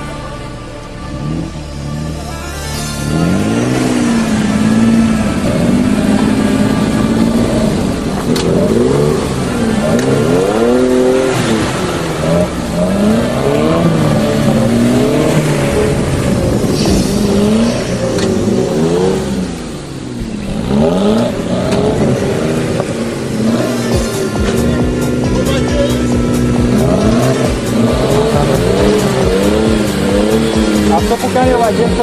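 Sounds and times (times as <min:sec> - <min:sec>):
engine revving under load: 0:00.0 - 0:32.0.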